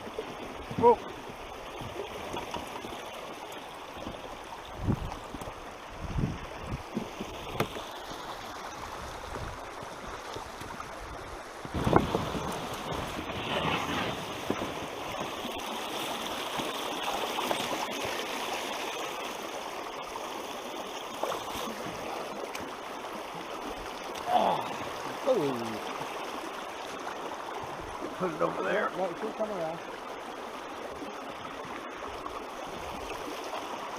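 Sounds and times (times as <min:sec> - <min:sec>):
stream rushing through rapids: 0:00.0 - 0:33.9.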